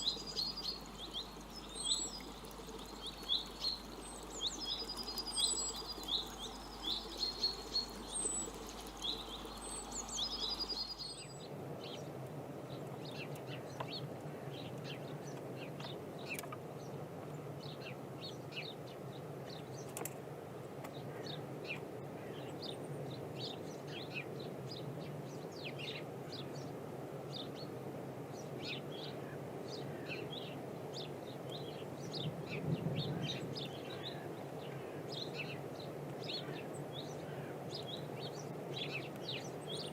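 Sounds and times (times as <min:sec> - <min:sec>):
wild birds singing and chirping: 0:00.0 - 0:20.1, 0:20.8 - 0:39.9
steady outdoor hiss: 0:00.0 - 0:39.9.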